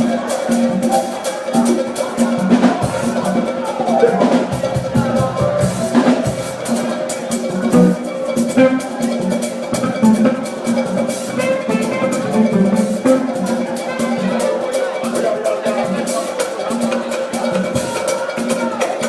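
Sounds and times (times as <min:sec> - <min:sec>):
drum kit and percussion: 0:00.0 - 0:19.0
sustained pitched instruments: 0:00.2 - 0:16.7.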